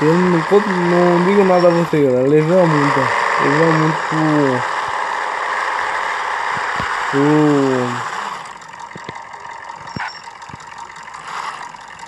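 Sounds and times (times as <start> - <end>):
car cabin noise while driving: 0.0 - 12.0.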